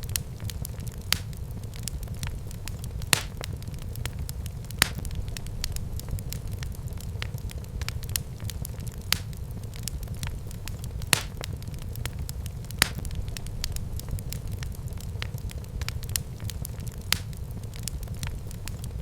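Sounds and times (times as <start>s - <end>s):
fire crackling and popping: 0.0s - 19.0s
fire flames rumbling: 0.0s - 19.0s.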